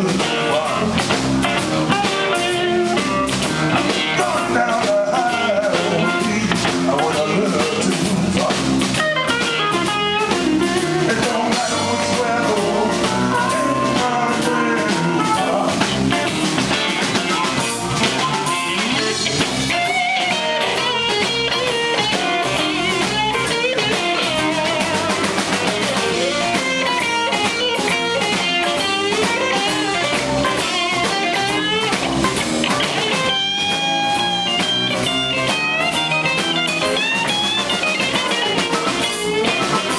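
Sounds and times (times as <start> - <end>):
drum kit: 0.0 - 39.9
electric bass: 0.0 - 39.9
electric guitars: 0.0 - 39.9
amplified blues harmonica: 0.4 - 8.1, 8.9 - 39.9.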